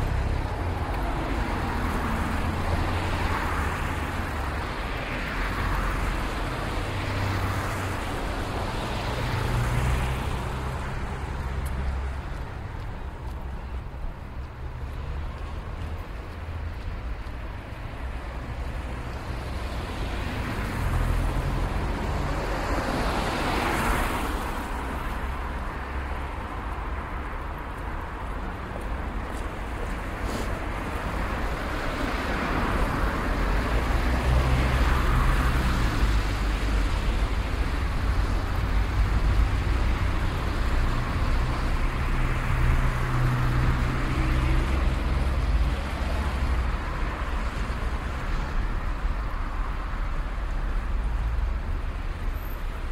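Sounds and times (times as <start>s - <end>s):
traffic rumble: 0.0s - 52.9s.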